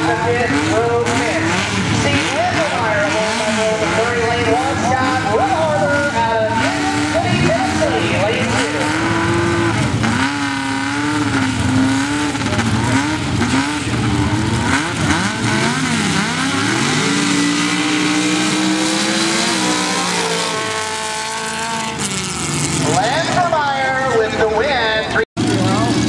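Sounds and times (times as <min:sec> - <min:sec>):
drag racing engines revving: 0:00.0 - 0:26.0.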